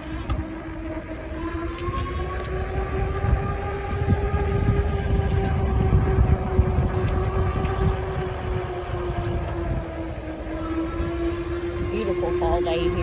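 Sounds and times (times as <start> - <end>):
electric motor whine: 0.0 - 13.0
wind buffeting microphone: 0.0 - 13.0.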